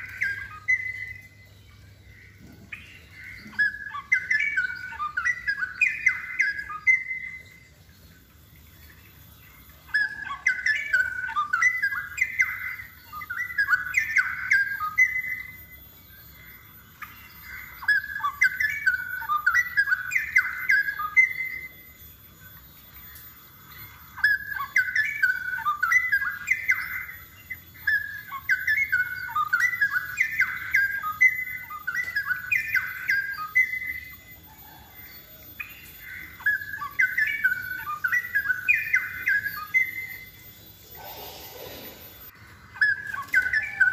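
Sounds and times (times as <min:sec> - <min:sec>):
bulbul singing warbled phrases: 0:00.0 - 0:43.9.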